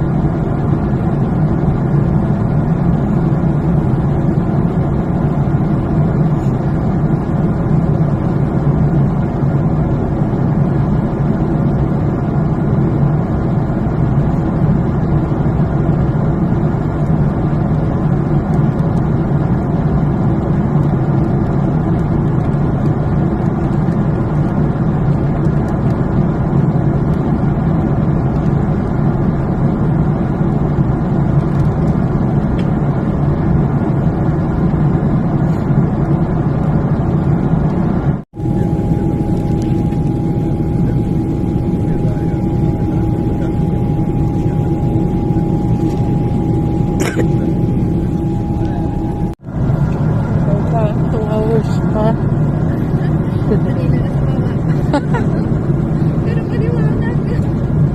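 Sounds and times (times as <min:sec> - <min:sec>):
jet engines droning: 0:00.0 - 0:57.9.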